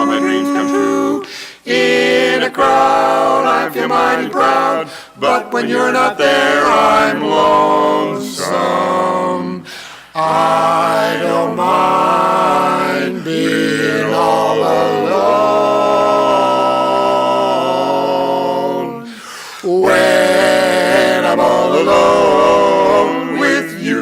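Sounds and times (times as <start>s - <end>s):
vocal group singing in harmony: 0.0s - 24.0s.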